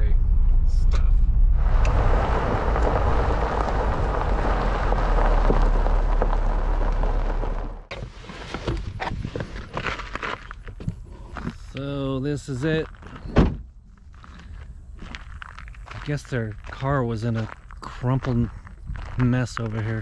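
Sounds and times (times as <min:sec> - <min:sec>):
car rumble: 0:00.0 - 0:20.0
tyres crunching on gravel: 0:01.6 - 0:20.0.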